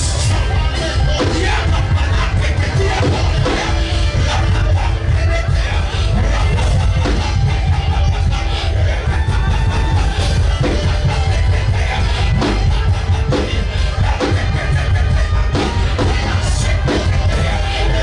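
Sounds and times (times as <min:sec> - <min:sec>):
deep bass: 0:00.0 - 0:18.0
worship band music: 0:00.0 - 0:18.0.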